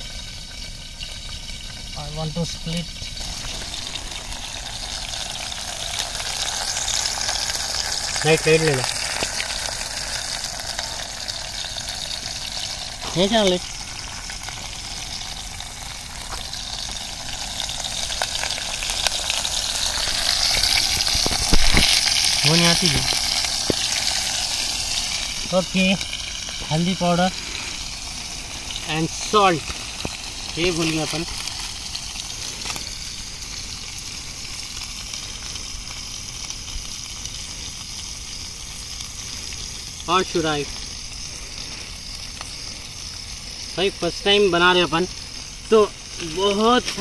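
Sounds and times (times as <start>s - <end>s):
food sizzling in a pan: 0.0s - 47.0s.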